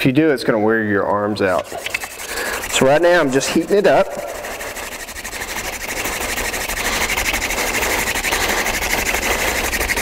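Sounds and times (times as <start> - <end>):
wooden drill grinding on fireboard: 1.5 - 10.0.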